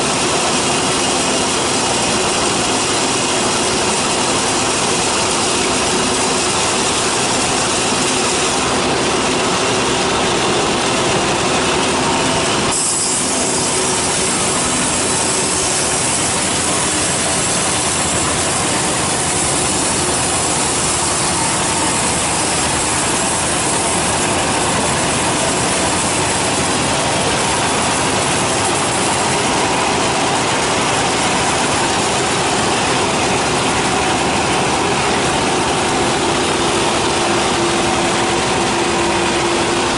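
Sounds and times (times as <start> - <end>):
band saw cutting through log: 0.0 - 39.9.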